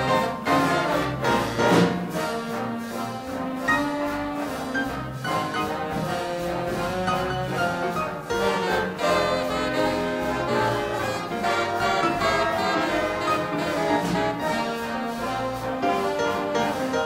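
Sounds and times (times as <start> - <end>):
big band swing jazz: 0.0 - 17.0.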